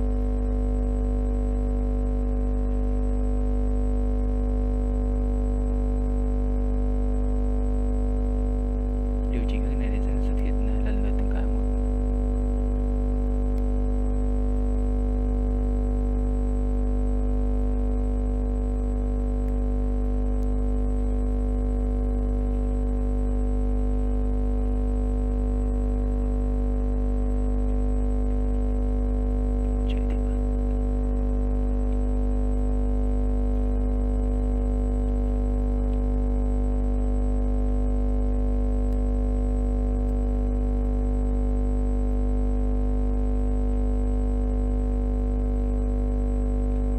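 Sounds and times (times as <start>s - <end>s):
electronic drone of held tones: 0.0s - 46.9s.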